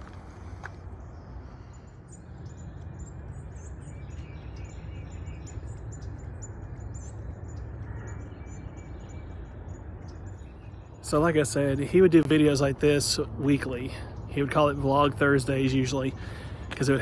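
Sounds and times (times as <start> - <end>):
steady low rumble: 0.0 - 17.0
small birds chirping: 0.3 - 17.0.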